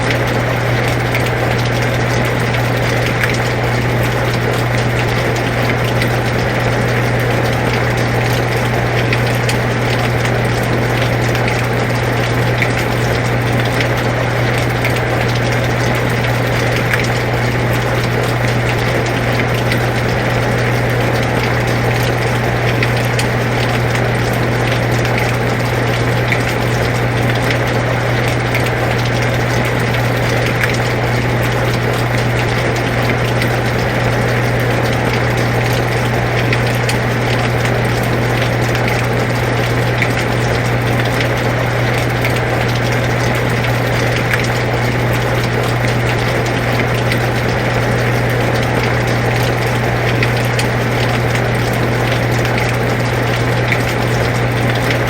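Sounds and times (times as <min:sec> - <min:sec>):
air conditioner humming: 0:00.0 - 0:55.0
rain falling: 0:00.0 - 0:55.0.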